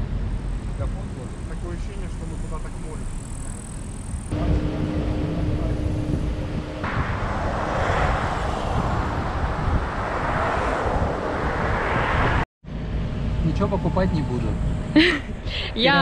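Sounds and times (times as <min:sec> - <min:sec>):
vehicle road rumble: 0:00.0 - 0:16.0.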